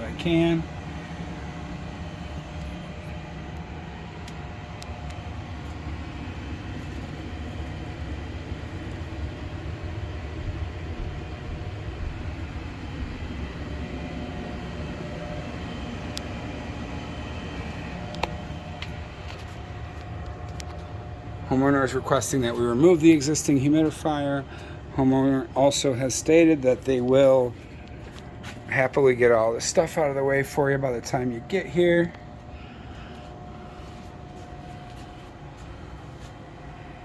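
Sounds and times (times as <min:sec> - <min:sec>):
furnace low rumbling hum: 0:00.0 - 0:37.0.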